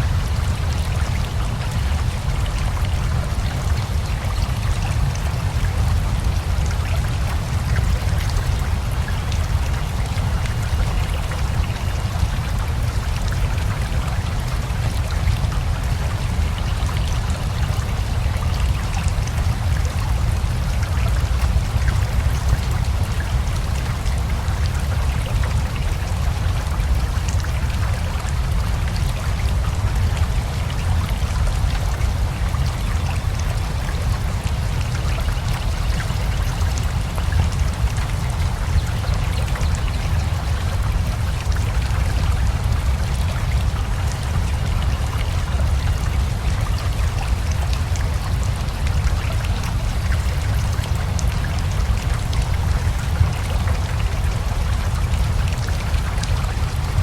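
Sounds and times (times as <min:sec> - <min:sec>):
river flowing: 0:00.0 - 0:57.0
steady rain: 0:00.0 - 0:57.0.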